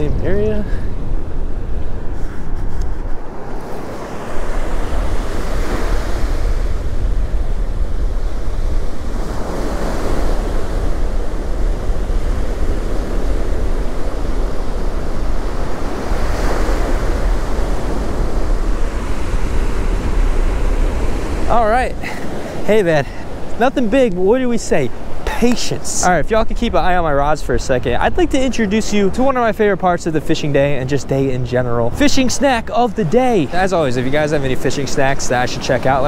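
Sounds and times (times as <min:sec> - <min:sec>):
ocean surf on sandy beach: 0:00.0 - 0:36.0
wind buffeting microphone: 0:00.0 - 0:36.0.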